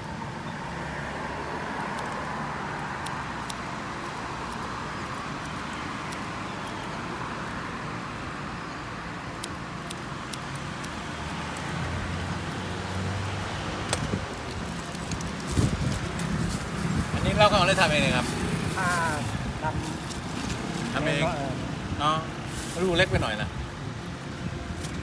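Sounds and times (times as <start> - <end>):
road traffic noise: 0.0 - 25.0
vehicle engine hum: 0.1 - 25.0.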